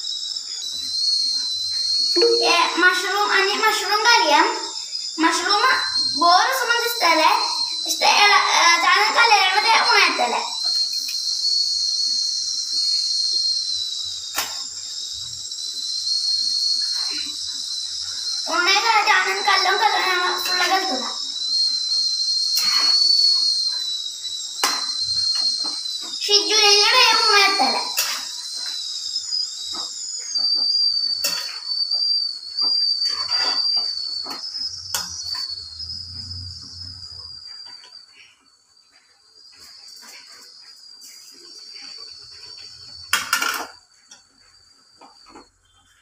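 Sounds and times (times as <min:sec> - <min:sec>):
high-pitched hiss: 0:00.0 - 0:46.0
thin whistling tone: 0:00.0 - 0:46.0.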